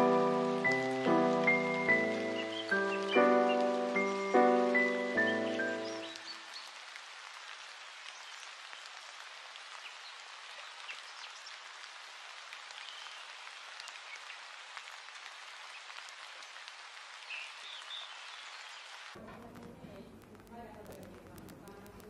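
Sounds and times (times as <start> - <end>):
crackling hiss: 0.0 - 22.0.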